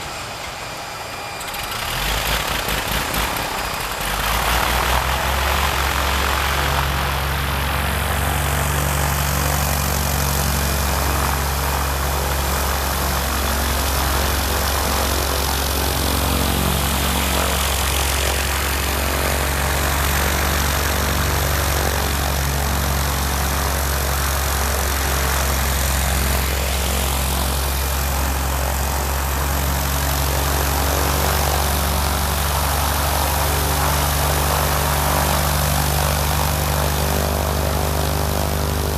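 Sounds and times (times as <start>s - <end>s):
aircraft piston engine idling: 0.0s - 38.9s.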